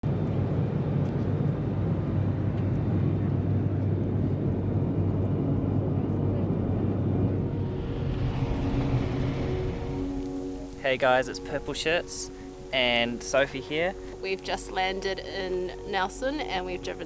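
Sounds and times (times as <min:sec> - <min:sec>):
airliner engines droning in cabin: 0:00.0 - 0:17.0.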